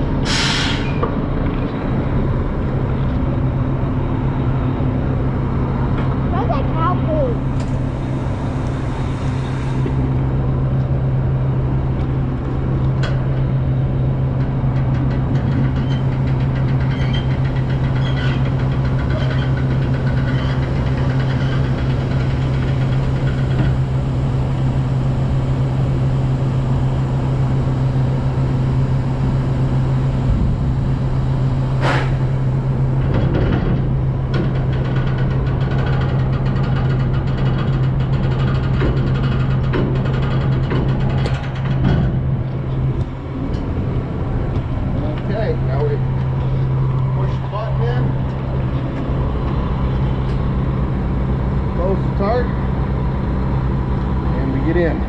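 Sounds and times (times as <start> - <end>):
loud machinery hum: 0.0 - 55.0.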